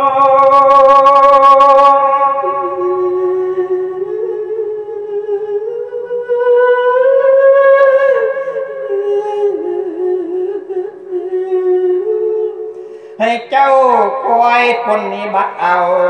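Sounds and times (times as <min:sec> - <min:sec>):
amplified voice chanting long notes: 0:00.0 - 0:16.0.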